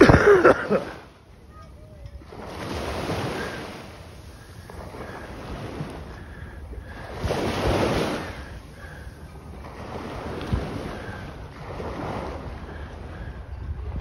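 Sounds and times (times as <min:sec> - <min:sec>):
water lapping: 0:00.0 - 0:14.0
wind buffeting microphone: 0:01.2 - 0:14.0.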